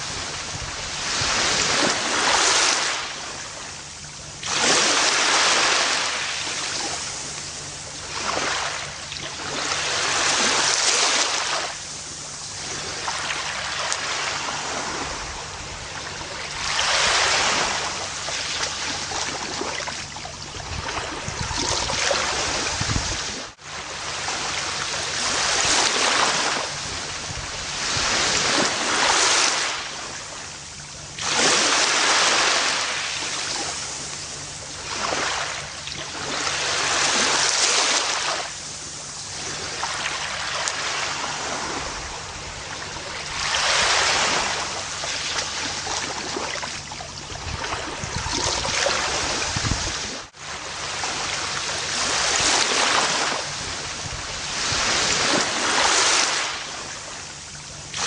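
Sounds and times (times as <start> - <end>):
ocean waves washing onto beach: 0.0 - 58.0.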